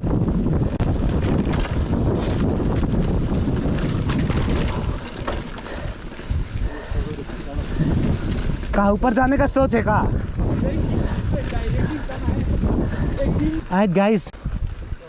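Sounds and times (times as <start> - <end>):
wind buffeting microphone: 0.0 - 15.0
bike rattling clicks and knocks: 0.2 - 13.9.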